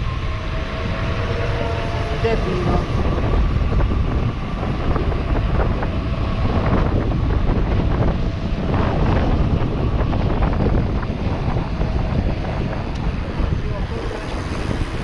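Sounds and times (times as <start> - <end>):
tyres rumbling on asphalt: 0.0 - 15.0
wind on microphone: 0.0 - 15.0.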